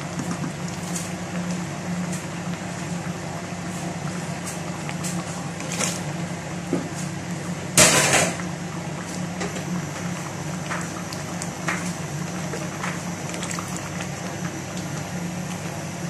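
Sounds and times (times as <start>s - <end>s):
stew simmering in a pot: 0.0s - 16.0s.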